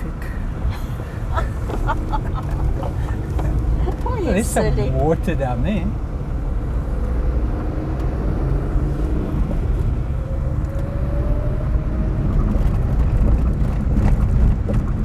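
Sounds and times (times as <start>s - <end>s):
vehicle engine and tyres rumble: 0.0s - 15.0s.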